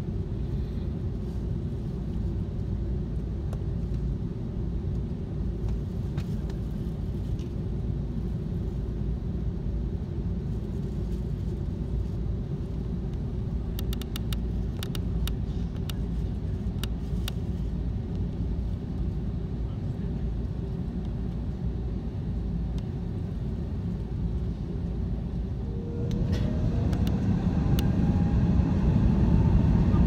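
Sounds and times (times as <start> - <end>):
aircraft cabin low rumble: 0.0 - 30.0.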